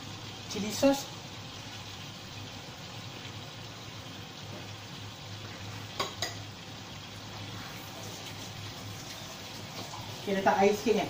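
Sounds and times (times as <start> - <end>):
sauce sizzling in a wok: 0.0 - 11.0.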